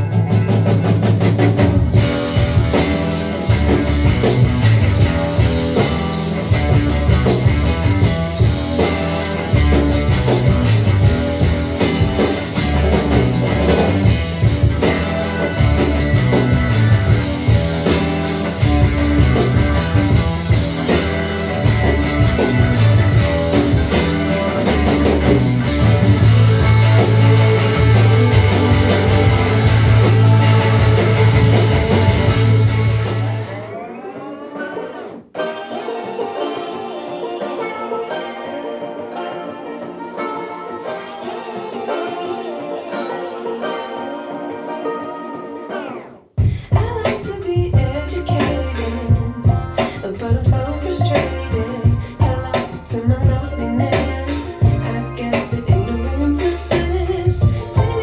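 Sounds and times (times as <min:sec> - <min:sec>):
rock music with guitar and drums: 0:00.0 - 0:58.0.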